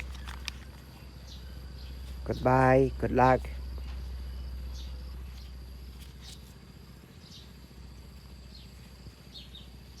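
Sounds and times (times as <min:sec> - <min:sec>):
high-pitched insect hum: 0:00.0 - 0:10.0
low hum: 0:00.0 - 0:10.0.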